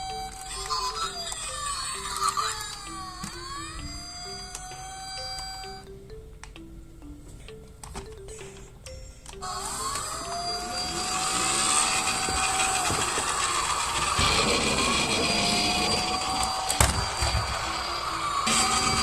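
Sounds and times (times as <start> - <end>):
police siren wailing: 0.0 - 5.9, 9.4 - 19.0.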